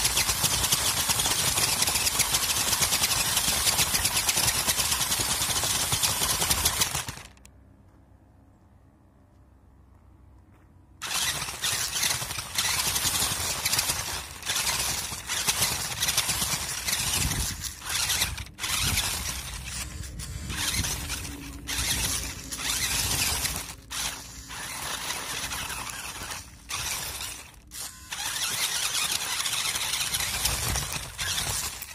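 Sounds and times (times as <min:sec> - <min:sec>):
rc truck driving over gravel: 0:00.0 - 0:07.5, 0:11.0 - 0:31.9.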